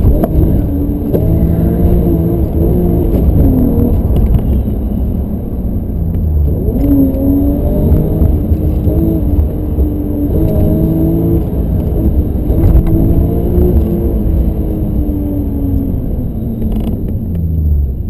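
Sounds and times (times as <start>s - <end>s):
car engine revving: 0.0s - 18.0s
low road rumble: 0.0s - 18.0s.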